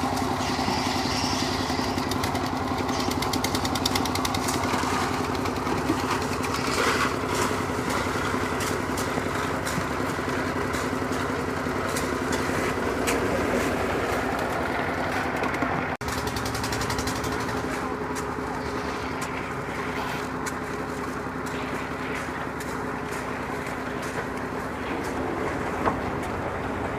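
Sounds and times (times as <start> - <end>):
engine running: 0.0 - 26.9.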